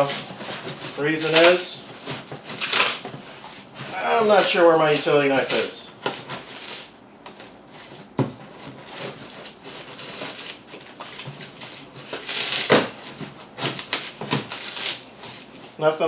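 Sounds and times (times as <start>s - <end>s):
cardboard ripping: 0.0s - 15.6s
cardboard scraping and crinkling: 0.0s - 15.8s.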